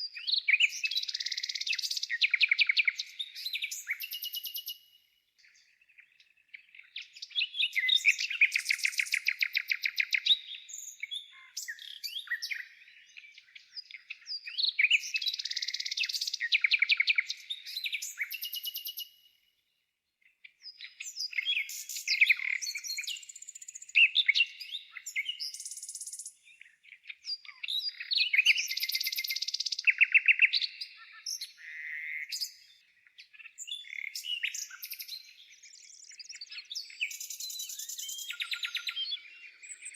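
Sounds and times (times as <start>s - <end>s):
songbirds trilling: 0.0s - 19.1s, 20.2s - 39.9s.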